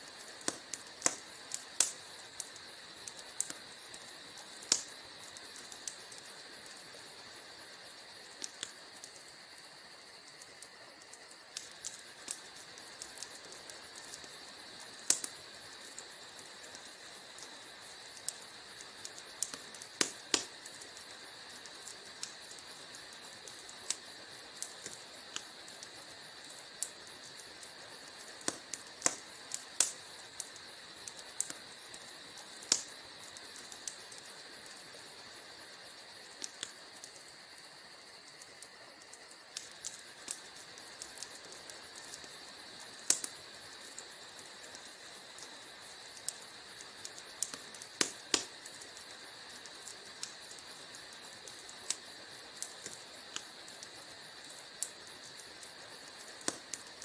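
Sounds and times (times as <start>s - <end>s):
fire hiss: 0.0s - 57.0s
wood fire popping and snapping: 0.0s - 57.0s.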